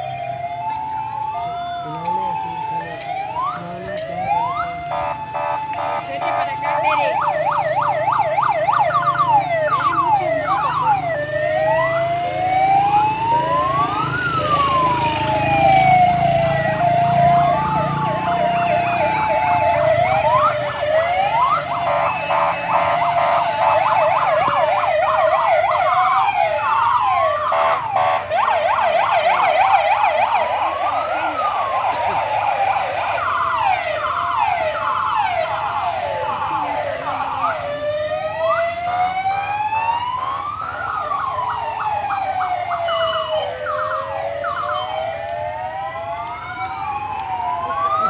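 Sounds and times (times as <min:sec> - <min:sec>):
engines rumbling: 0:00.0 - 0:48.0
wailing sirens: 0:00.0 - 0:48.0.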